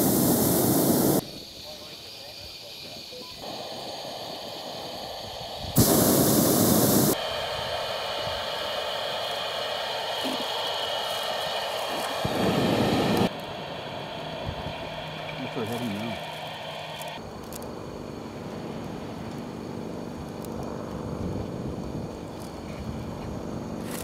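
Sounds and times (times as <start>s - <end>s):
steady hiss: 0.0s - 19.5s
propane burner roaring: 0.0s - 24.0s.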